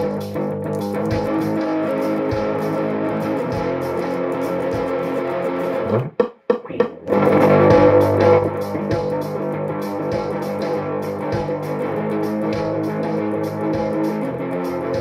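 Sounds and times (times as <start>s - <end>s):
electric guitar playing: 0.0s - 15.0s.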